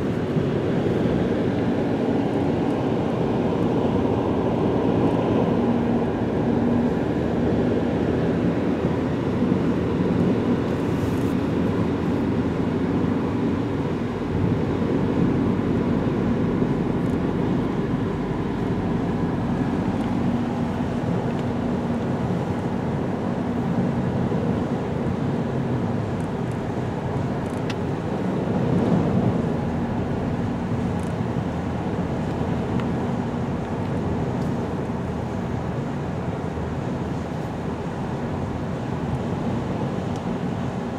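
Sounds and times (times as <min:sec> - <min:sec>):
car engine hum: 0:00.0 - 0:40.9
tyres on wet road: 0:00.0 - 0:40.9.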